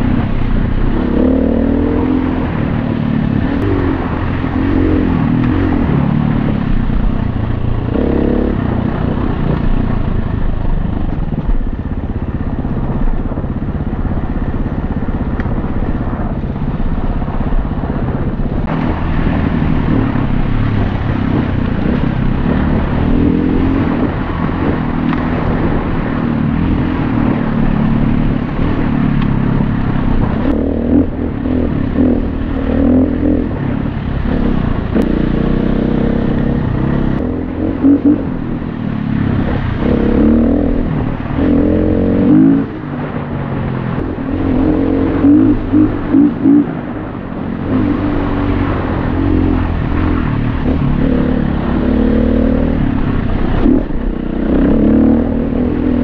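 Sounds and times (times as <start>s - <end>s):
dirt bike engine revving: 0.0s - 9.6s, 18.6s - 43.2s, 43.9s - 56.0s.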